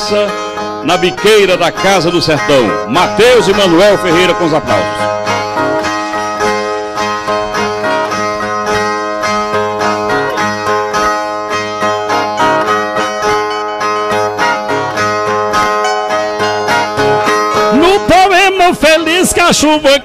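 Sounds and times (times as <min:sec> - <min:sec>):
plucked steel string guitars: 0:00.0 - 0:20.0.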